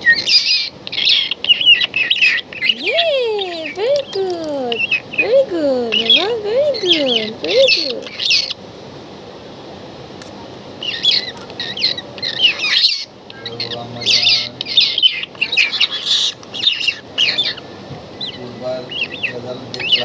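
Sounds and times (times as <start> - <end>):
bird chick begging calls: 0.1 - 8.6, 10.8 - 20.0.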